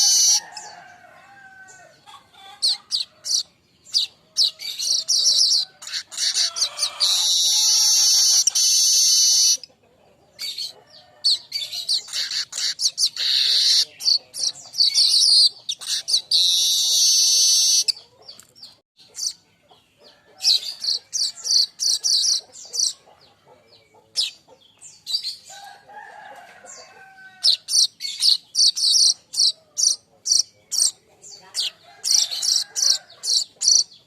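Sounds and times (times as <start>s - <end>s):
bird chattering song: 0.0s - 25.7s, 26.6s - 34.0s.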